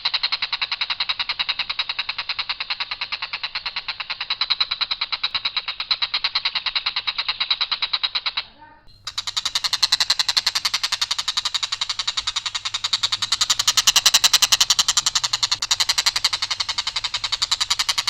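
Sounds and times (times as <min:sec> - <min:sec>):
kingfisher rattling call: 0:00.0 - 0:18.0.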